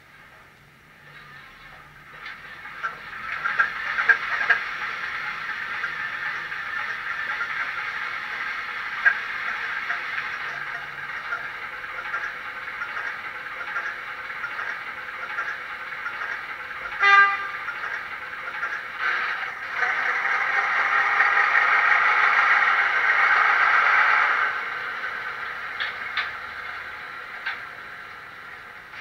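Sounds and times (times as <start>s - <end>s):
model diesel engine running: 0.9s - 29.0s.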